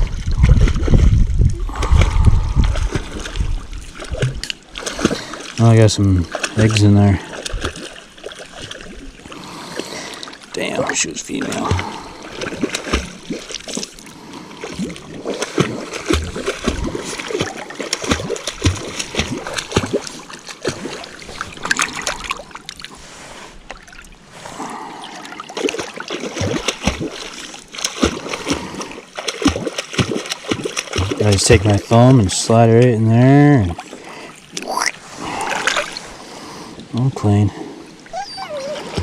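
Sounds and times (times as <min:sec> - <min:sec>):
water splashing and sloshing: 0:00.0 - 0:39.0.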